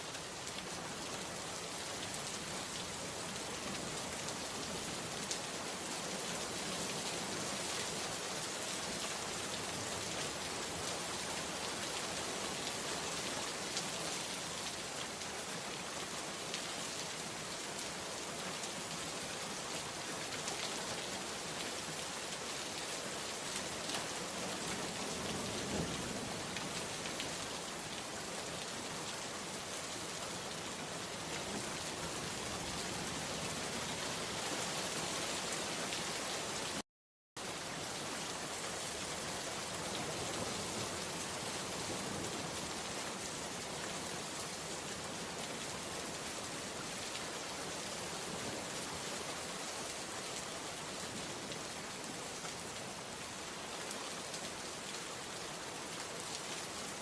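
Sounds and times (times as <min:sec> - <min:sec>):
steady rain: 0:00.0 - 0:36.8, 0:37.4 - 0:57.0.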